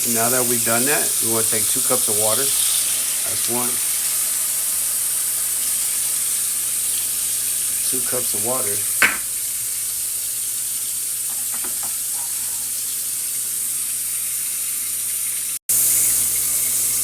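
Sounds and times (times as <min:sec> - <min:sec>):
vegetables sizzling in hot pan: 0:00.0 - 0:17.0.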